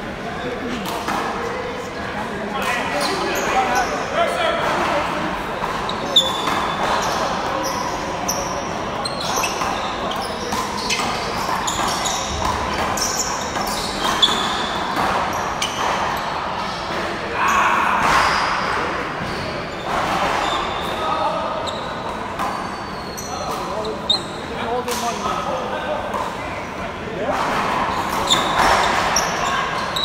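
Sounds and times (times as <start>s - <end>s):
sneaker squeaks on court floor: 2.6s - 5.0s, 5.6s - 26.8s, 27.4s - 30.0s.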